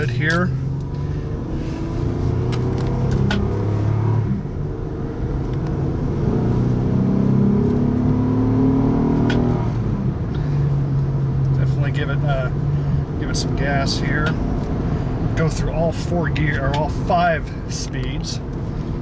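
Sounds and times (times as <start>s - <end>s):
car engine accelerating through gears: 0.0s - 15.5s.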